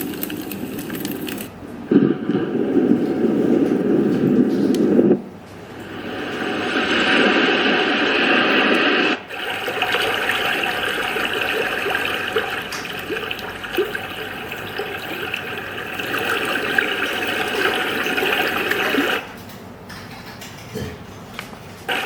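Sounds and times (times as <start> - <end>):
running water through small speaker: 0.0 - 19.4.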